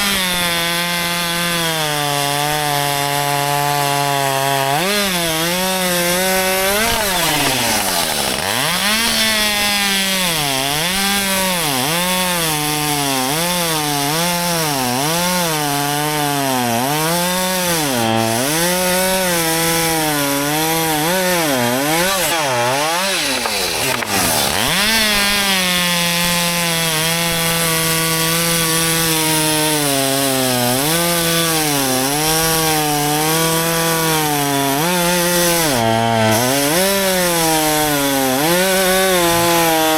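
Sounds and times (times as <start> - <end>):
chainsaw cutting under load: 0.0 - 39.9.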